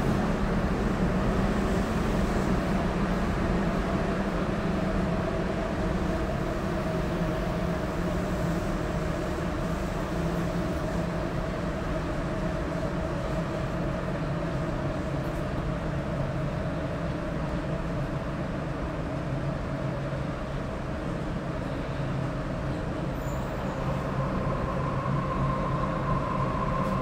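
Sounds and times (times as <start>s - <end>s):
subway train running rumble: 0.0s - 27.0s.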